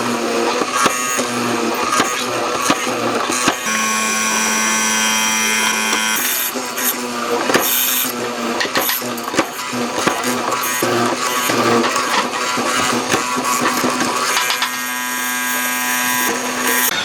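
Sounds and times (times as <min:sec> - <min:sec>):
electric power tool whining: 0:00.0 - 0:17.0.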